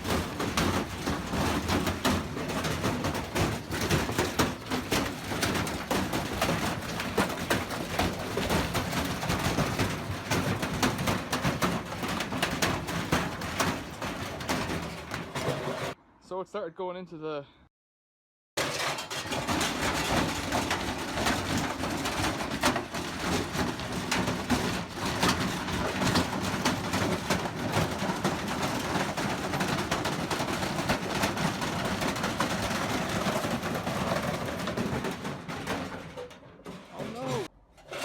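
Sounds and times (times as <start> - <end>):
washing machine rattling and knocking: 0.0 - 16.0, 18.6 - 38.0.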